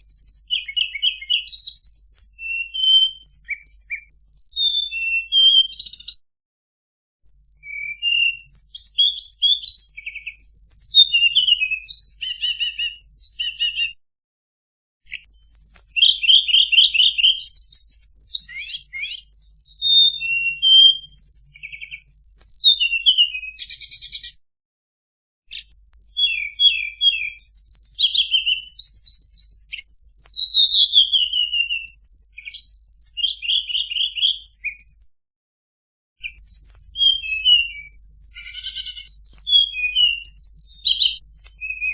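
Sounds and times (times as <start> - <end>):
bird singing whistled trills: 0.0 - 6.2, 7.3 - 14.0, 15.1 - 24.4, 25.5 - 35.1, 36.2 - 41.9.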